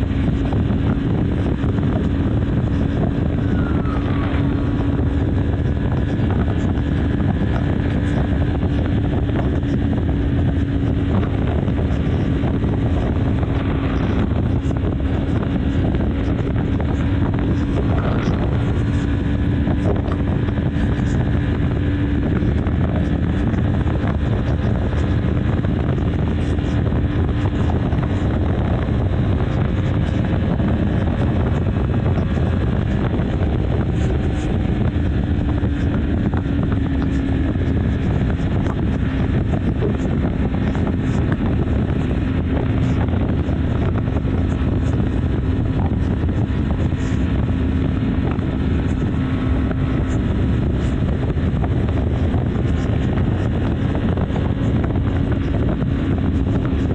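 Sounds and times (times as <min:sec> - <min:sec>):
motorcycle engine cruising: 0:00.0 - 0:56.9
road noise: 0:00.0 - 0:56.9
wind rushing over microphone: 0:00.0 - 0:56.9.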